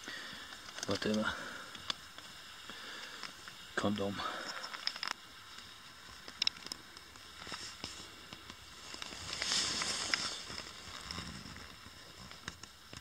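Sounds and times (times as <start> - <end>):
soft rustling with clicks: 0.0 - 13.0.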